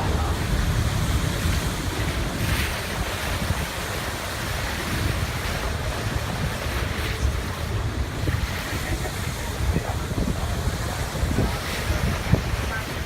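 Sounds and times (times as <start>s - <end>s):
ocean waves and surf: 0.0s - 13.0s
wind buffeting microphone: 0.0s - 13.0s.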